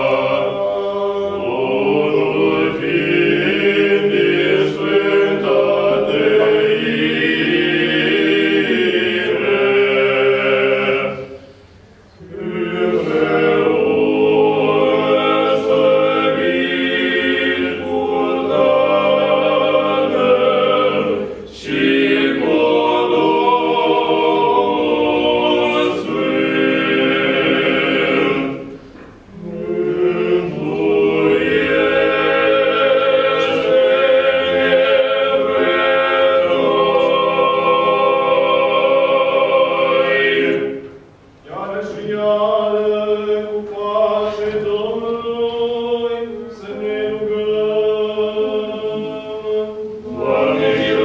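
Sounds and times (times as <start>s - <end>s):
male choir chanting a cappella: 0.0s - 51.0s.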